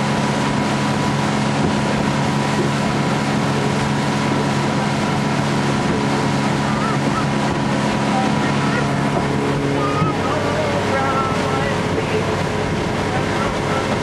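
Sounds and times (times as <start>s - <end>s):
outboard motor drone: 0.0s - 14.0s
rush of wind and water: 0.0s - 14.0s.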